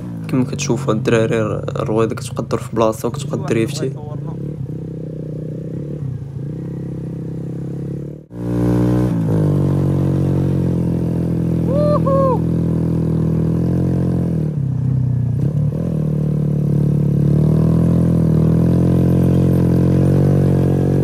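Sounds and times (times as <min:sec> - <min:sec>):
motorcycle engine revving high: 0:00.0 - 0:21.0.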